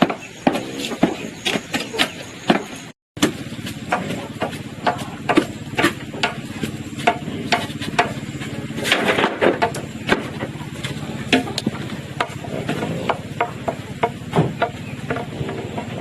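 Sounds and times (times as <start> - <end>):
knocks and clatters: 0.0 - 16.0
steady low hum: 0.0 - 16.0.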